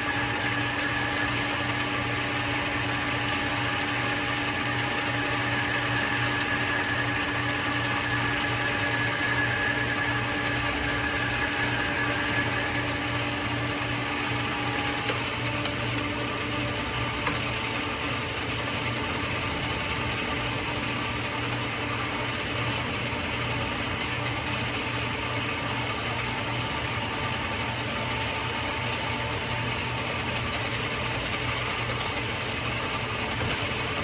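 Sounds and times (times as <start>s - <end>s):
machine running with low hum: 0.0s - 34.0s.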